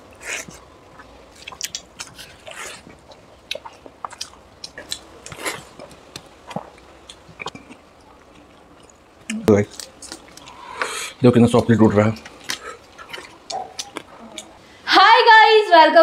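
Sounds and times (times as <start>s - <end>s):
wet chewing and smacking: 0.0s - 14.6s.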